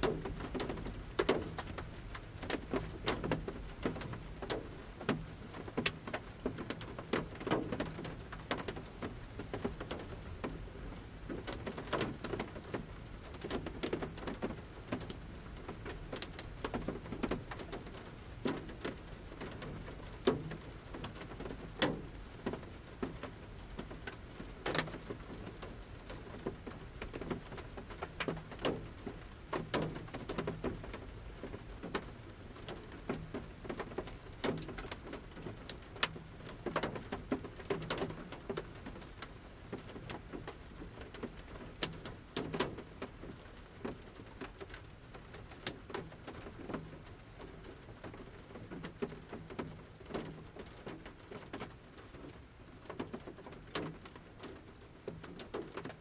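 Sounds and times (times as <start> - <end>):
raindrops tapping on van roof: 0.0 - 56.0
soft rain hiss: 0.0 - 56.0.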